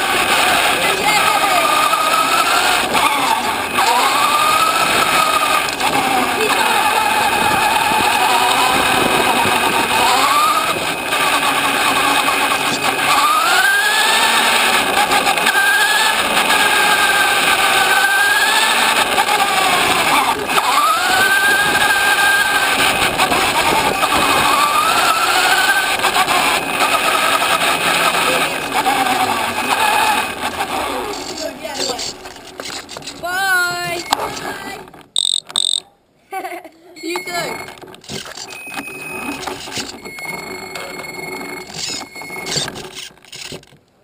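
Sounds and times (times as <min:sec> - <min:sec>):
toy car motor whining: 0:00.0 - 0:35.9, 0:37.0 - 0:43.8.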